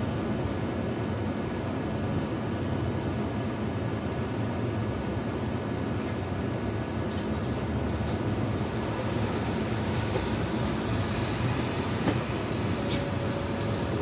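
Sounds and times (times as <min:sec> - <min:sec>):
low rumble of vehicles: 0:00.0 - 0:14.0.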